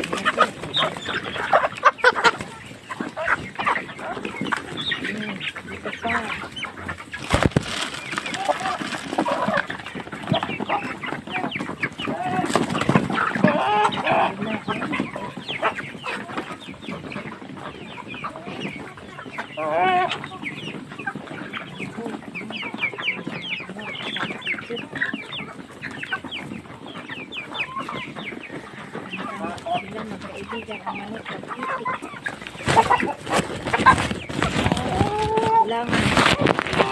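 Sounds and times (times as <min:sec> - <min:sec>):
chickens clucking: 0:00.0 - 0:36.9.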